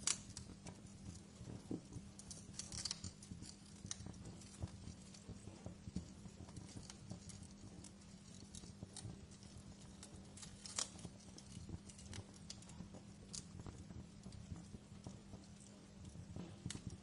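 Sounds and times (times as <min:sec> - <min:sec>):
faint low hum: 0:00.0 - 0:17.0
wood fire crackling: 0:00.0 - 0:17.0.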